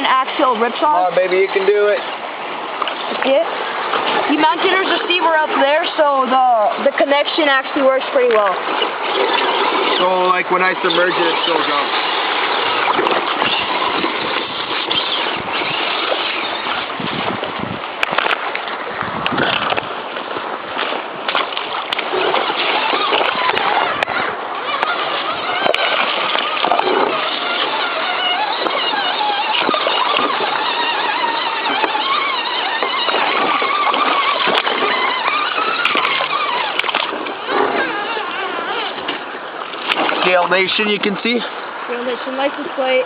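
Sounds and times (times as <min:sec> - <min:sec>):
creek water rushing: 0:00.0 - 0:43.0
toy trucks splashing: 0:02.8 - 0:16.9, 0:20.9 - 0:43.0.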